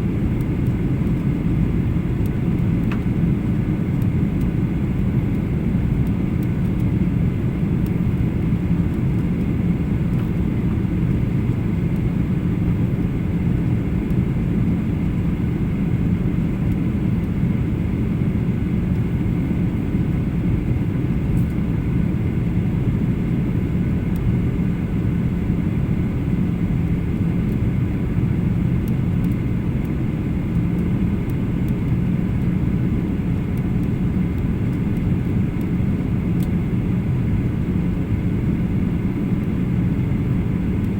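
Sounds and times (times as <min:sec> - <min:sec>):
airplane cabin rumble: 0:00.0 - 0:40.9
faint steady whine: 0:00.0 - 0:40.9.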